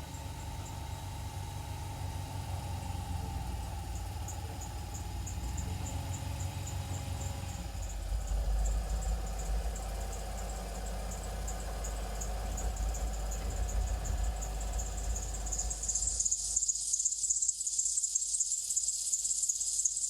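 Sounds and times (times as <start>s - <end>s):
truck engine idling and rumbling: 0.0s - 16.7s.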